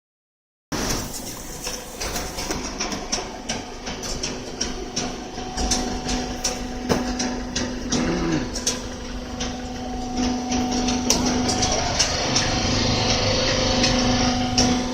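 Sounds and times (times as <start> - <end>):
baler motor hum: 1.1 - 14.9
machine clicks and knocks: 1.3 - 14.9.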